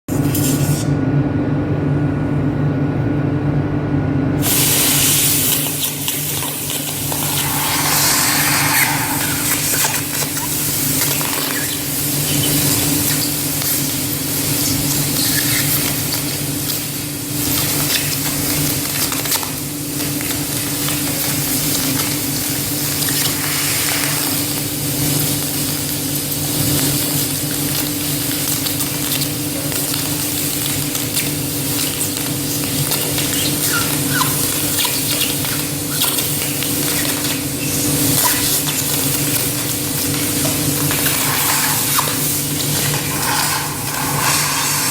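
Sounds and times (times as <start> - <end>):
hissing water spray: 4.4 - 44.9.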